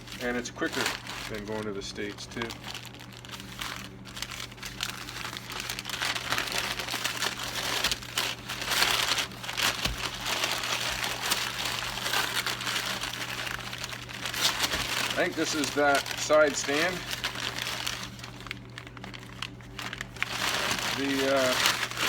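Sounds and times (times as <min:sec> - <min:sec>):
packaging crinkling and rustling: 0:00.0 - 0:22.0
steady low hum: 0:00.0 - 0:22.0.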